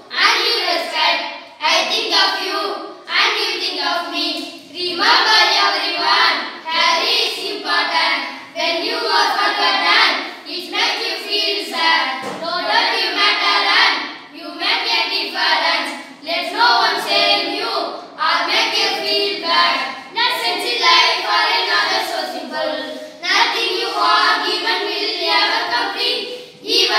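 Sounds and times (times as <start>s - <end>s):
boys chanting a poem in unison: 0.0s - 26.9s.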